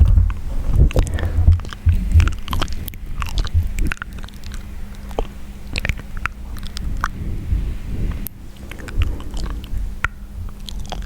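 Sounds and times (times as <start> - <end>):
low rumble: 0.0 - 11.0
wet mouth clicks and smacks: 0.3 - 7.2, 8.2 - 11.0.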